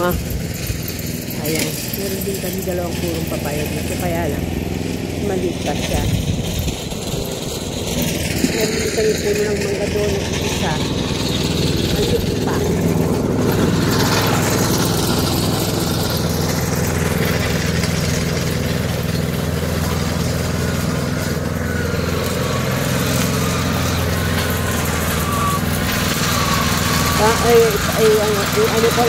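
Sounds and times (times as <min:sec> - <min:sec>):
petrol lawn mower running: 0:00.0 - 0:29.0.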